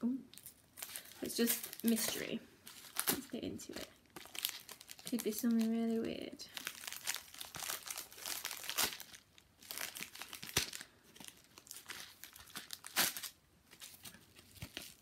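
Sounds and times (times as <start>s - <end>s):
padded envelope crinkling and tearing: 0.4s - 5.9s, 6.5s - 15.0s.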